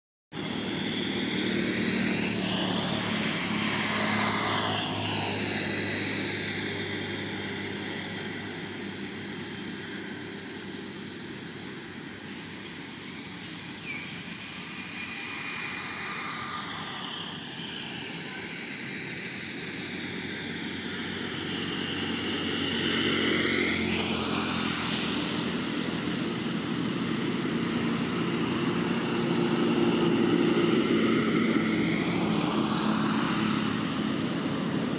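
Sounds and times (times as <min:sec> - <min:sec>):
vehicles passing by: 0:00.3 - 0:34.9.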